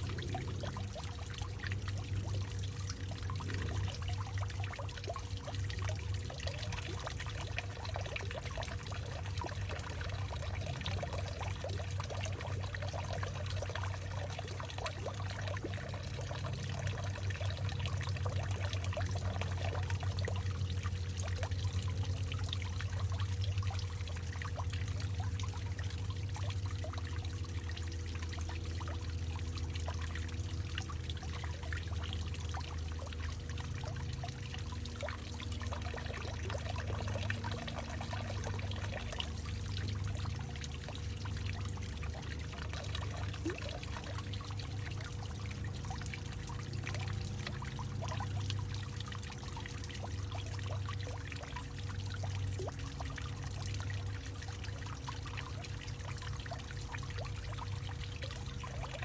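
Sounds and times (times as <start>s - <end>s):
steady low hum: 0.0s - 59.0s
water trickling and splashing: 0.0s - 59.0s.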